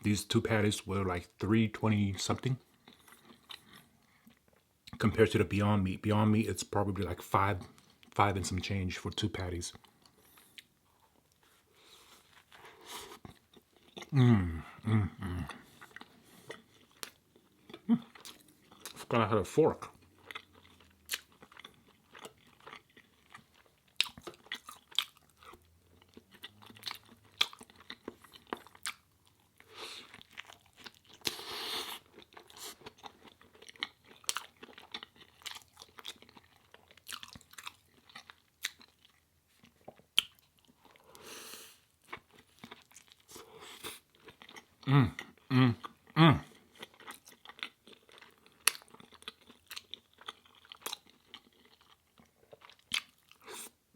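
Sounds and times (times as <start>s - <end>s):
chewing and crunching food: 1.9s - 53.9s.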